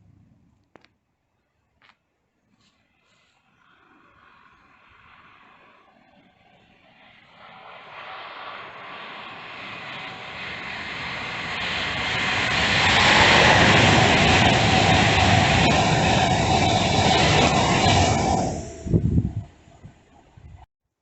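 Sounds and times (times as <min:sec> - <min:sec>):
train rushing past: 0:03.0 - 0:20.6.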